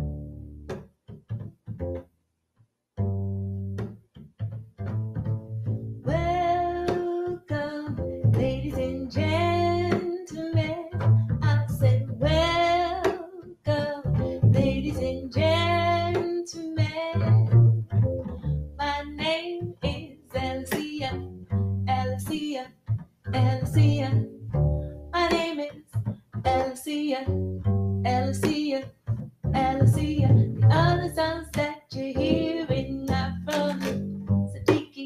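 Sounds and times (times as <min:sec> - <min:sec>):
double bass playing short notes: 0:00.0 - 0:02.0, 0:03.0 - 0:34.8.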